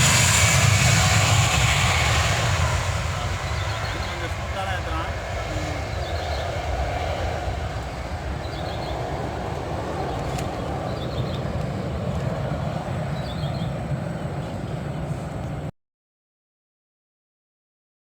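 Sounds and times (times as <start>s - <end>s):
airliner cabin rumble: 0.0s - 15.7s.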